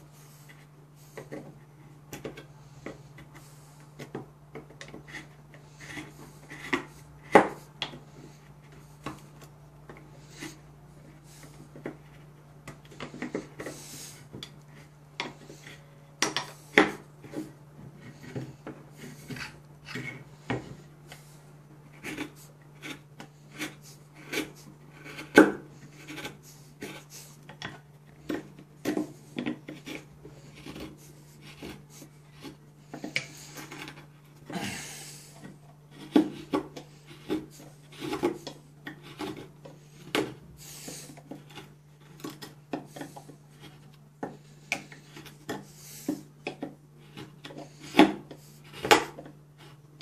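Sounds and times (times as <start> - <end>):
knife scraping and cracking wood: 0.2 - 50.0.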